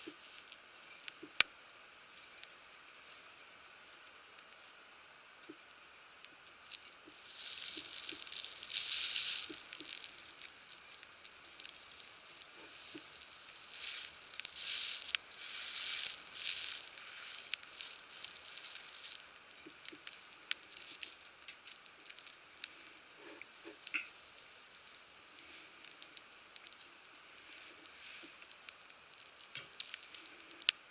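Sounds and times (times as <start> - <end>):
fire crackling pops: 0.0 - 30.9
food sizzling on a griddle: 0.0 - 30.9.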